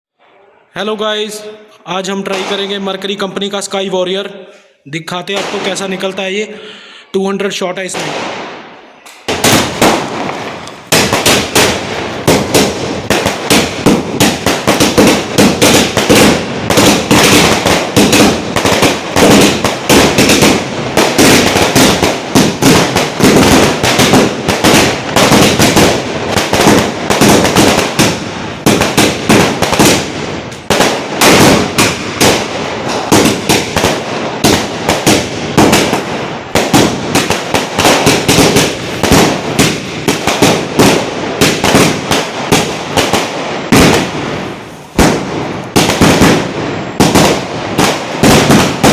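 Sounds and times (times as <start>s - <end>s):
firework cake firing: 8.0s - 48.9s.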